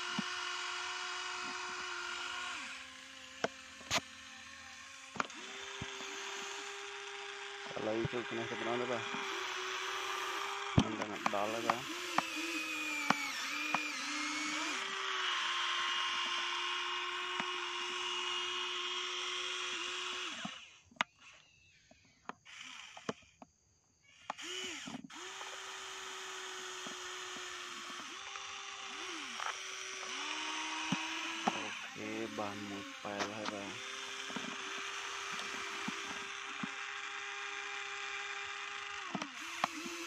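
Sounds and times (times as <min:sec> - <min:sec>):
toy electric motors whirring: 0:00.0 - 0:40.0.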